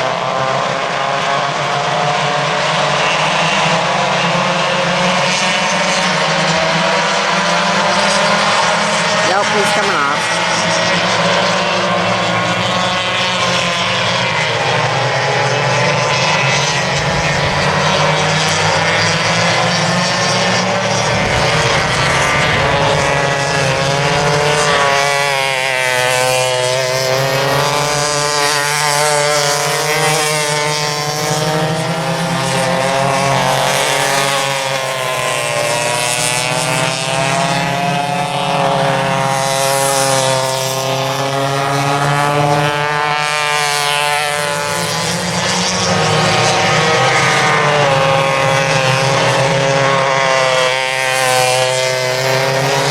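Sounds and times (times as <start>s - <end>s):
go-kart engines racing: 0.0s - 52.9s.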